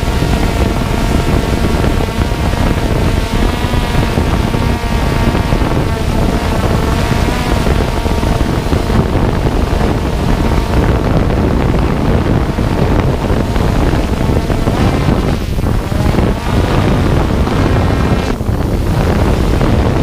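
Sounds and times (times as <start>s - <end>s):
faint drone motor whine: 0.0s - 20.0s
strong wind buffeting microphone: 0.0s - 20.0s.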